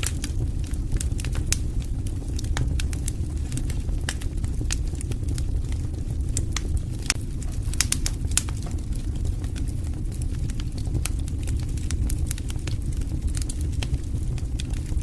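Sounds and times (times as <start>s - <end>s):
burning wood crackling and popping: 0.0s - 15.0s
fire flame rumble: 0.0s - 15.0s.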